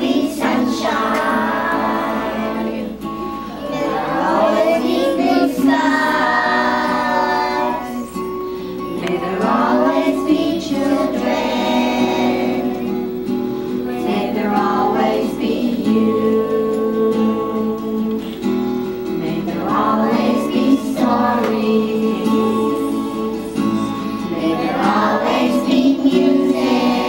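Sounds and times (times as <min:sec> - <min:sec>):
children singing in unison: 0:00.0 - 0:18.4, 0:19.1 - 0:27.0.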